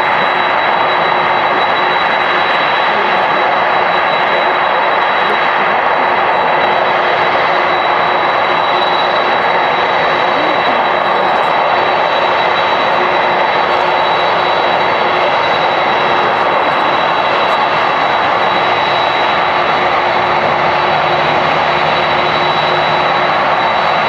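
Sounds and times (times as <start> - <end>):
high engine whine: 0.0 - 24.0
jet engines rushing: 0.0 - 24.0.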